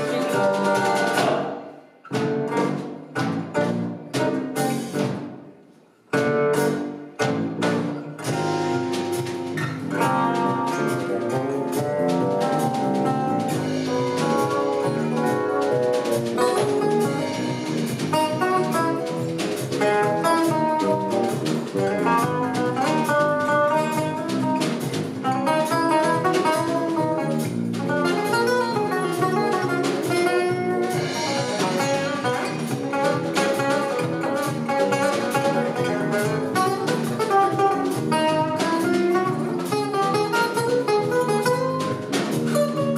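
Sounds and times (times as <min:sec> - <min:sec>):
plucked string melody: 0:00.0 - 0:05.2, 0:06.2 - 0:42.9
drums: 0:00.0 - 0:42.9.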